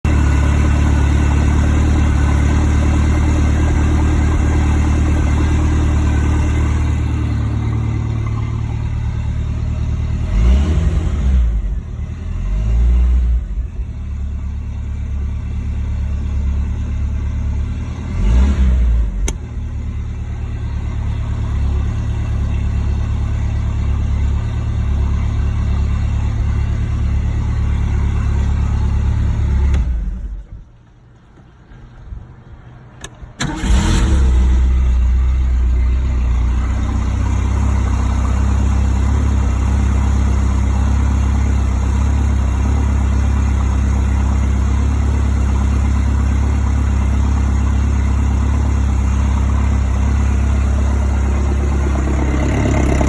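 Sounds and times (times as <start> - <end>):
boat engine idling and revving: 0.1 - 30.7, 33.4 - 53.0.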